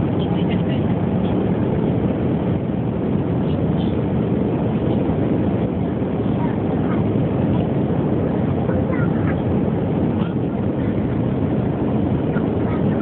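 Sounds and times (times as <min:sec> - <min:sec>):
airliner cabin engine and airflow rush: 0:00.0 - 0:13.0.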